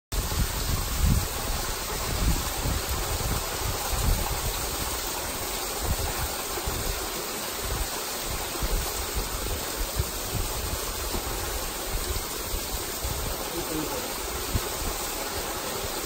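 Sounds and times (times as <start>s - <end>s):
waterfall rushing over rock: 0.1s - 16.0s.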